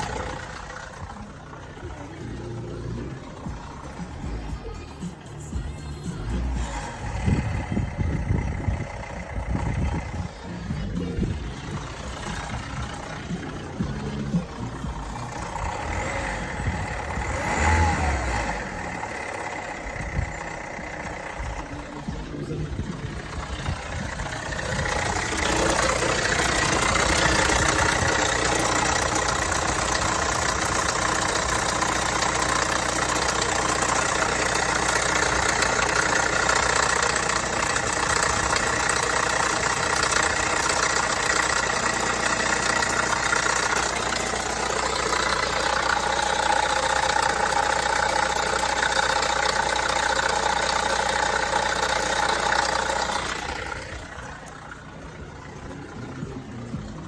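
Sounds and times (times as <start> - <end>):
car engine running with rattle: 0.0 - 57.0.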